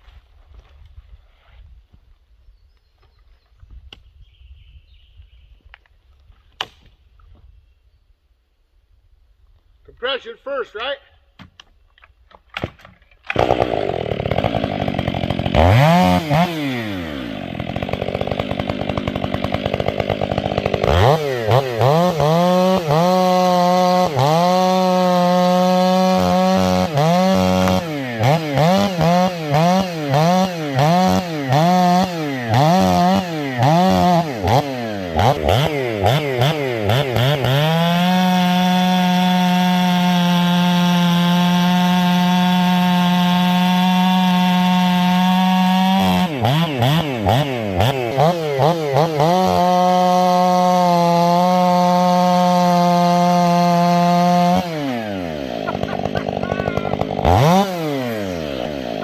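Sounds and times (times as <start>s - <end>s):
chainsaw cutting log: 6.6s - 6.9s, 11.4s - 59.0s.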